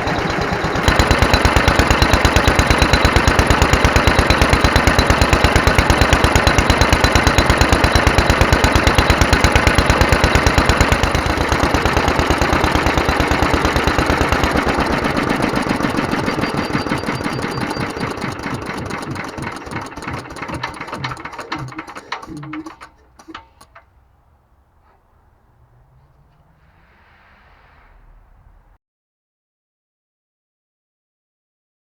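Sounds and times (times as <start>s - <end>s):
stationary engine running: 0.0s - 27.8s.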